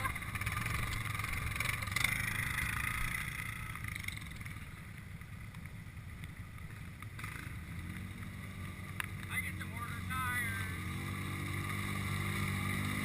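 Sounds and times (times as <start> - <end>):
atv engine rumbling: 0.0 - 13.0
engine whine: 0.0 - 13.0.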